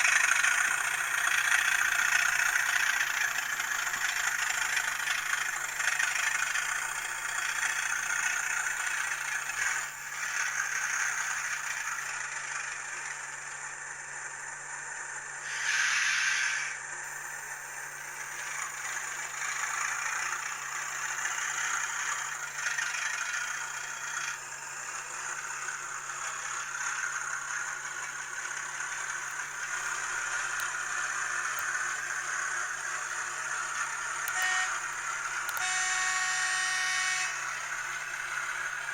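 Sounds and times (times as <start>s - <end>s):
diesel engine sound from small speaker: 0.0s - 38.9s
model train gears rattling: 0.0s - 38.9s.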